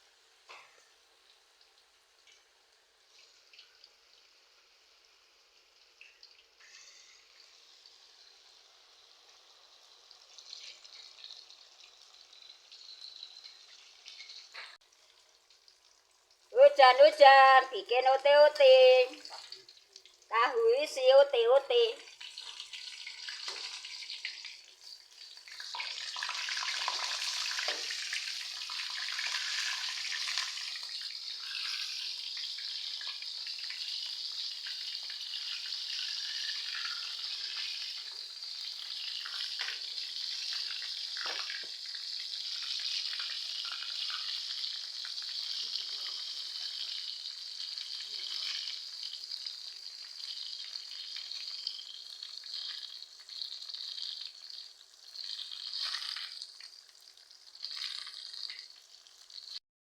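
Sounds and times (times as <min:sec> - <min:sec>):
food deep-frying in oil: 0:00.0 - 0:59.6.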